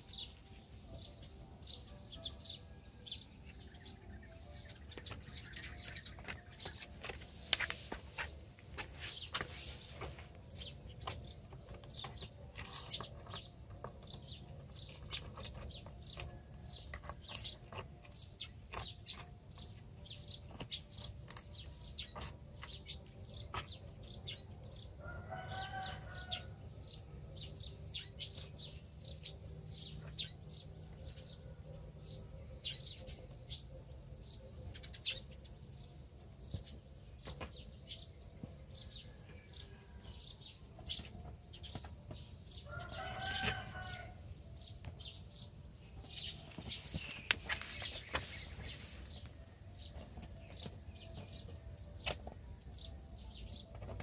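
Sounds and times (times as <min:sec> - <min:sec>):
birds chirping rapidly: 0:00.0 - 0:54.0.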